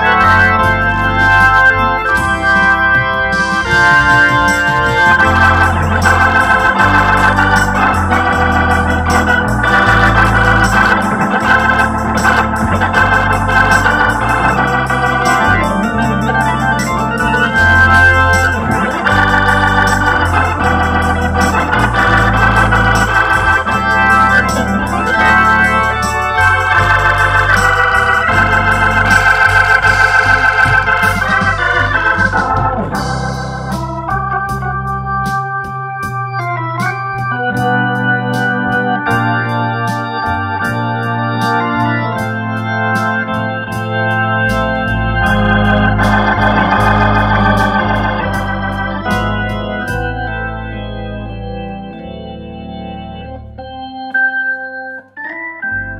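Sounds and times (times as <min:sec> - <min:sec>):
organ playing slow ballad: 0:00.0 - 0:55.9.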